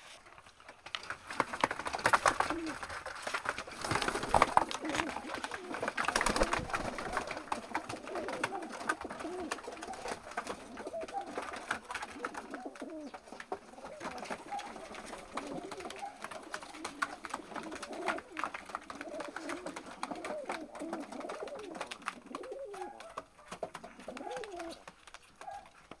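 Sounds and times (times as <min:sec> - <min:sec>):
pigeons cooing: 0:01.7 - 0:25.9.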